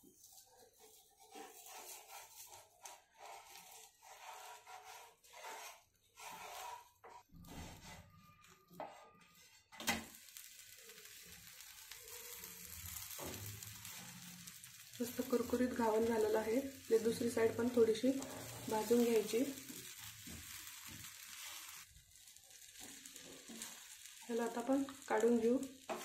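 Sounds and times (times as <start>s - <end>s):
batter sizzling: 0.0s - 8.4s, 9.8s - 26.0s
wooden spatula scraping: 0.0s - 9.8s, 10.4s - 26.0s.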